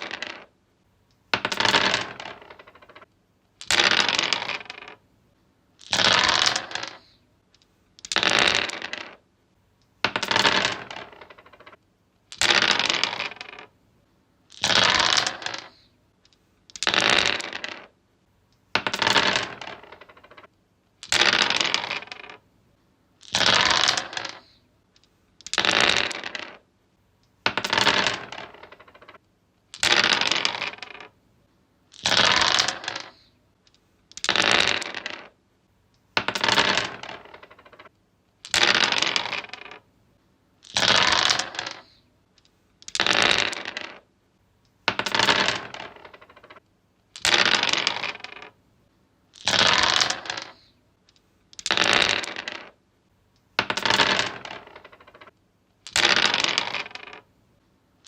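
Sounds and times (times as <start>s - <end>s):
dice clattering on wood: 0.0s - 0.5s, 1.2s - 5.0s, 5.8s - 9.2s, 10.0s - 13.7s, 14.5s - 18.0s, 18.6s - 22.4s, 23.2s - 26.6s, 27.3s - 31.2s, 31.9s - 35.4s, 36.0s - 39.9s, 40.6s - 44.1s, 44.7s - 48.6s, 49.3s - 52.8s, 53.4s - 57.3s.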